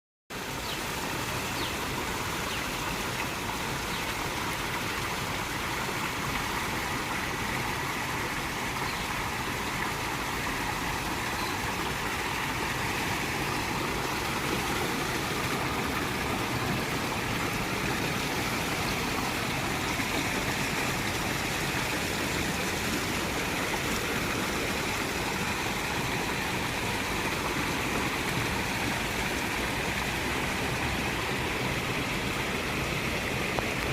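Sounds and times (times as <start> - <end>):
water fountain splashing: 0.3 - 33.9.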